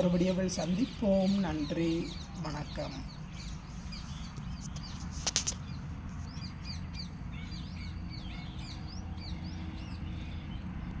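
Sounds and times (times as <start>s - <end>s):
birds chirping: 0.0s - 11.0s
low steady rumble: 0.0s - 11.0s.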